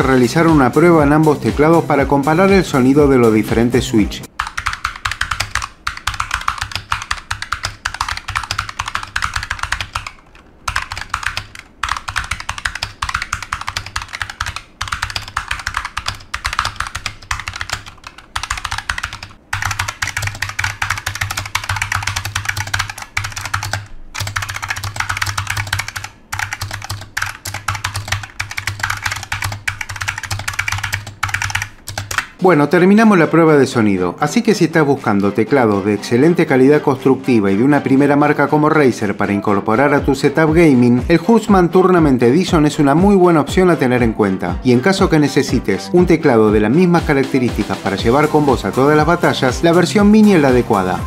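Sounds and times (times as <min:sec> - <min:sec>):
fast typing on keyboard: 0:00.0 - 0:03.7, 0:04.3 - 0:33.1, 0:34.7 - 0:36.8, 0:38.0 - 0:51.0.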